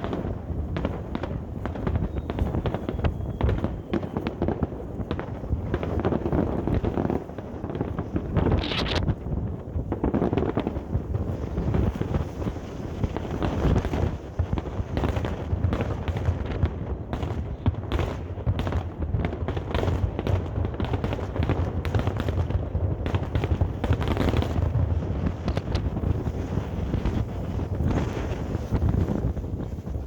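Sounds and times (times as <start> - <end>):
fireworks exploding: 0.0 - 30.0
wind rumbling on microphone: 0.0 - 30.0.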